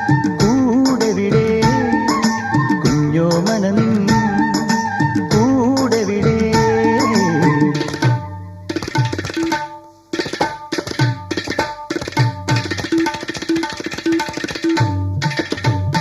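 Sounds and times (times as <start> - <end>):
tabla drumming: 0.0 - 16.0.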